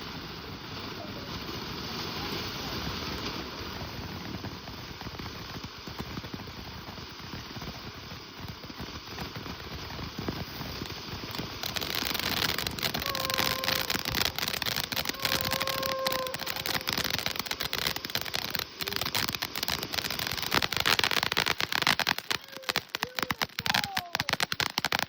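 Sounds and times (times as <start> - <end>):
fireworks crackling: 0.0 - 25.0
fireworks hissing: 0.0 - 25.0.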